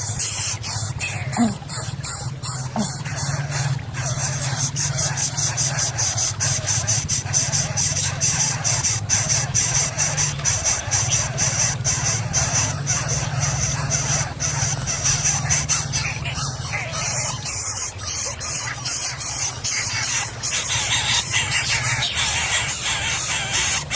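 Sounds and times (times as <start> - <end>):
nestlings begging raspy squeals: 0.0 - 23.9
steady low hum: 0.0 - 23.9.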